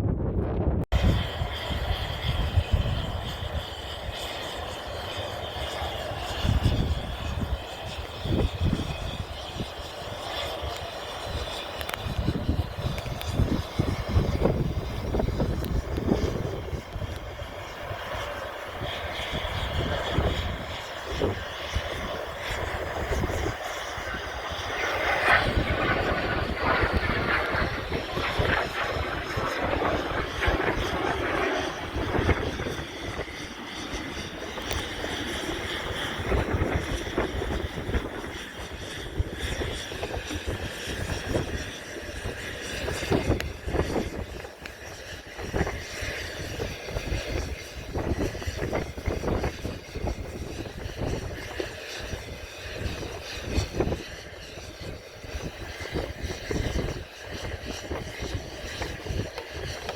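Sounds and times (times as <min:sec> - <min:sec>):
propeller airplane engine: 0:00.0 - 0:59.9.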